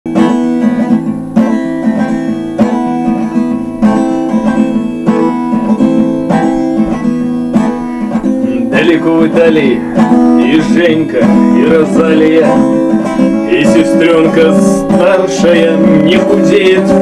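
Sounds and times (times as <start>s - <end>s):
acoustic guitar strumming chords: 0.1s - 17.0s.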